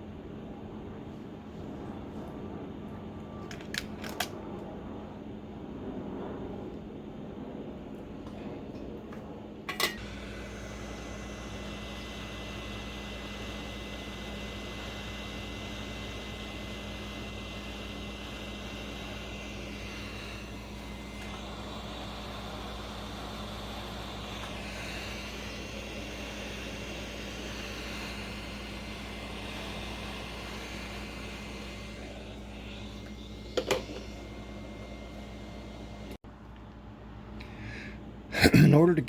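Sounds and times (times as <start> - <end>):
faint high whine: 4.4 - 36.2.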